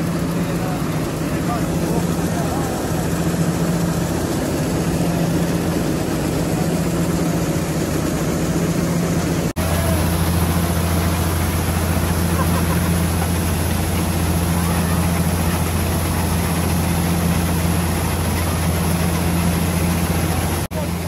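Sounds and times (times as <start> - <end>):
combine harvester droning: 0.0 - 21.0.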